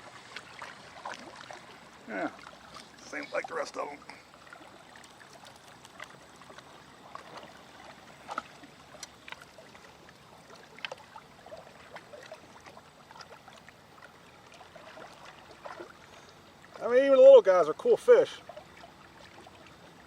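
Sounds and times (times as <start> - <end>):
water lapping and trickling: 0.0 - 20.0.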